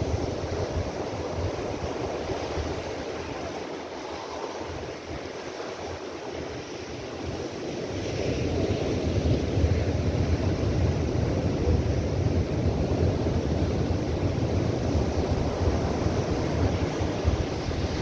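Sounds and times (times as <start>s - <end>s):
sea surf breaking on boulders: 0.0s - 18.0s.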